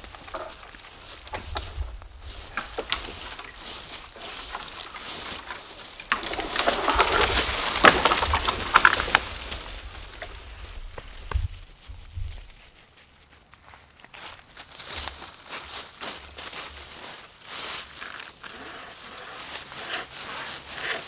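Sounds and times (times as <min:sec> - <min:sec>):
leaves crunching underfoot: 0:00.0 - 0:21.0.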